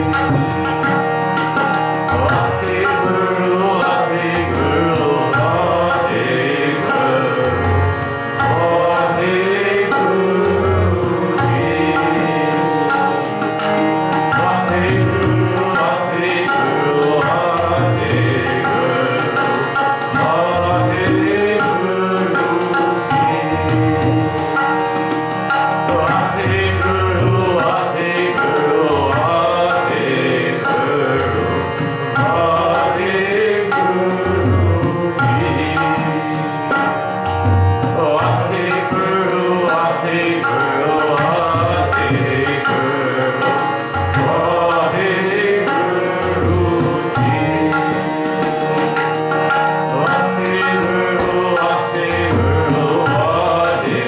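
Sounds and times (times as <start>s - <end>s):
harmonium reedy tones: 0.0s - 54.0s
tabla rhythm: 0.0s - 54.0s
person singing a hymn: 2.3s - 12.9s, 14.4s - 24.6s, 25.8s - 36.7s, 37.9s - 48.8s, 49.8s - 54.0s.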